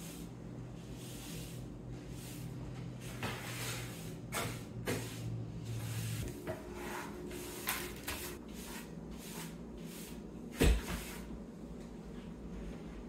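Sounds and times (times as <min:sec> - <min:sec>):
broom sweeping wooden floor: 0:00.0 - 0:13.0.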